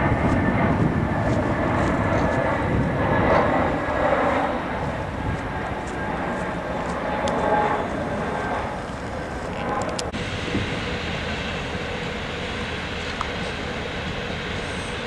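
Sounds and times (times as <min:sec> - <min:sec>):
train rumbling: 0:00.0 - 0:15.0
faint whining tones: 0:01.6 - 0:15.0.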